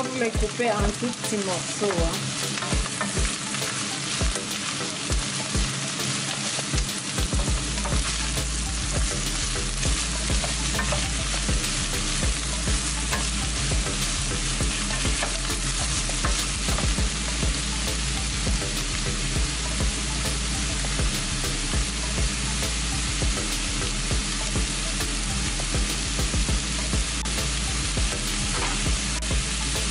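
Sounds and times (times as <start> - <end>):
vegetables sizzling in oil: 0.0 - 29.9.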